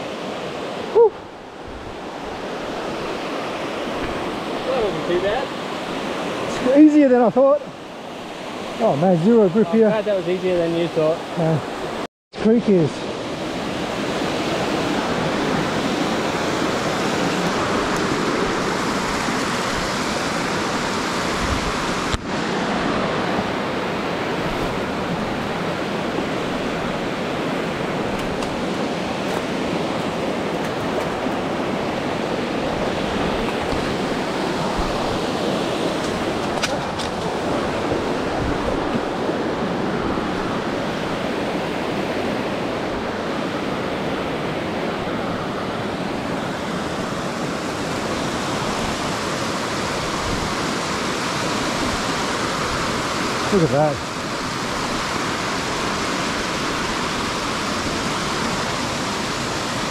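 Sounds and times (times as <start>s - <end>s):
creek water rushing over boulders: 0.0s - 59.9s.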